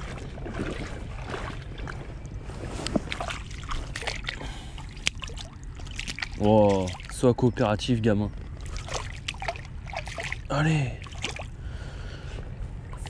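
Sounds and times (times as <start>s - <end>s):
water lapping among rocks: 0.0s - 7.3s, 8.5s - 11.8s
wind rumble on microphone: 0.0s - 13.0s.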